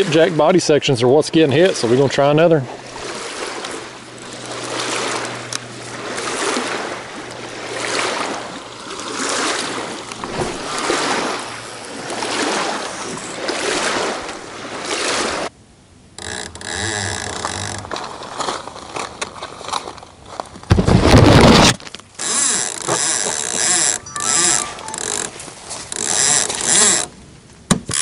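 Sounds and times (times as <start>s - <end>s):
small waves washing against bank: 0.0s - 15.6s, 16.2s - 27.4s.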